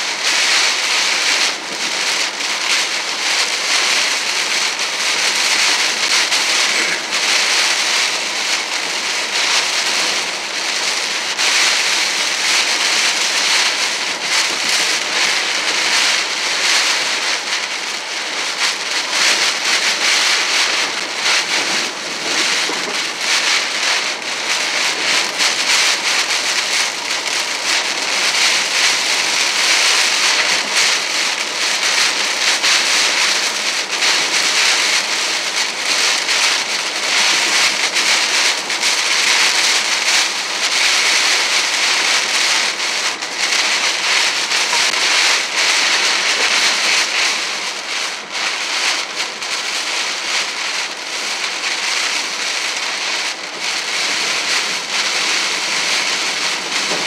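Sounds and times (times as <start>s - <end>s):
heavy rain on car roof: 0.0s - 57.0s
tyres hissing on wet road: 0.0s - 57.0s.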